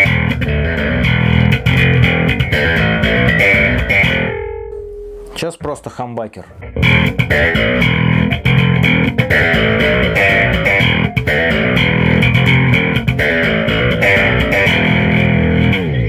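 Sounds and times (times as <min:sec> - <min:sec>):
slap bass guitar: 0:00.0 - 0:16.0.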